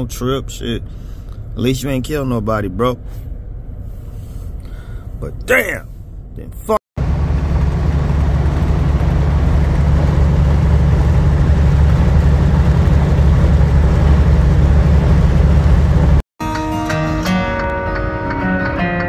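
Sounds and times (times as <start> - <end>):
truck engine and road noise: 0.0 - 16.2.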